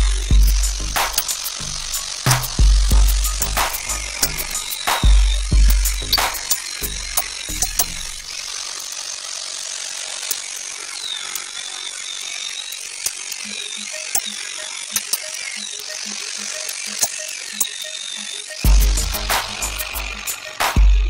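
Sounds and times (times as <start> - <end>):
sharp ticks: 0.0 - 20.9
angle grinder cutting metal: 0.0 - 21.0.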